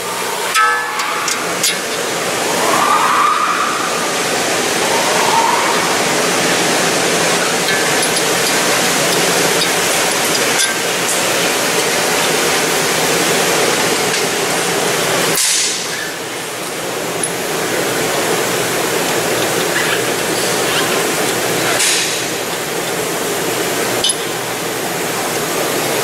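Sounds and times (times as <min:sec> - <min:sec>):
workshop noise hiss: 0:00.0 - 0:26.0.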